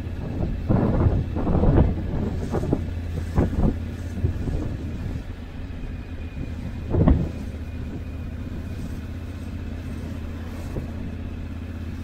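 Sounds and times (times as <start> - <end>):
motorcycle engine rumbling: 0.0 - 12.0
wind buffeting microphone: 0.0 - 12.0.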